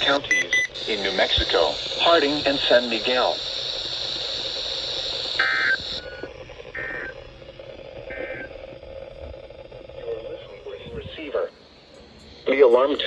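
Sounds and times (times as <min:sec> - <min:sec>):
digital data tone bursts: 0:00.0 - 0:07.4, 0:08.0 - 0:08.9, 0:09.9 - 0:13.0
steady radio hiss: 0:00.0 - 0:13.0.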